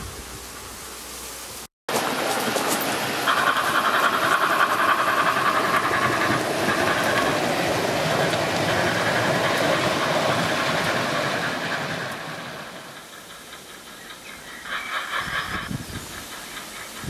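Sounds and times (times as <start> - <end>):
model train wheels rolling on rails: 1.9 - 17.0.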